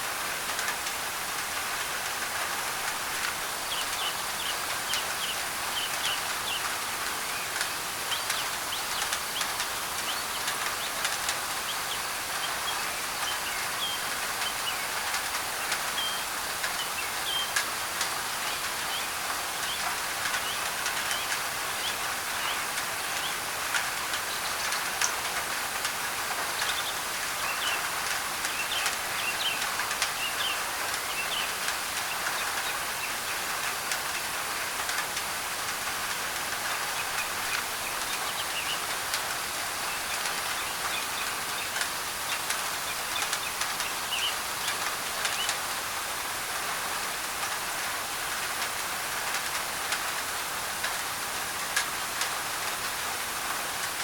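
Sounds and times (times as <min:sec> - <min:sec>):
rain on a tin roof: 0:00.0 - 0:54.0
white-noise hiss: 0:00.0 - 0:54.0.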